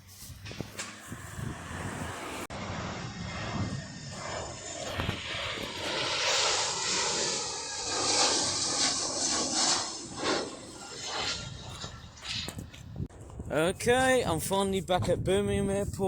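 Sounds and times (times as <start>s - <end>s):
airliner passing overhead: 0.0s - 14.9s.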